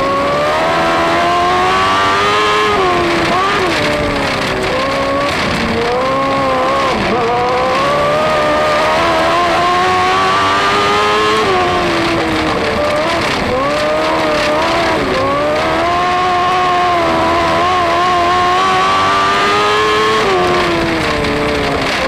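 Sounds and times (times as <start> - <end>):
motorcycle engine revving at speed: 0.0 - 22.0.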